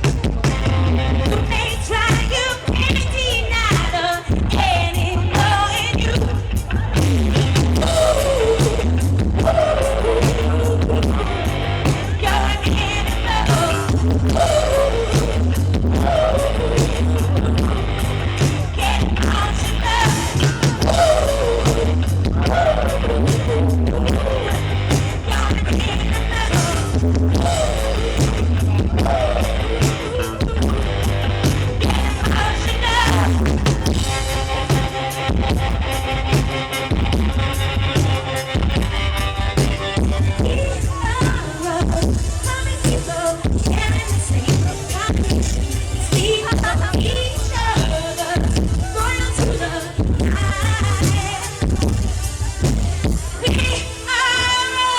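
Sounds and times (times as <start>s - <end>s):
booming bass line: 0.0s - 54.0s
live band playing: 0.0s - 54.9s
woman singing: 1.2s - 6.8s, 7.8s - 18.1s, 18.7s - 33.8s, 40.2s - 54.9s.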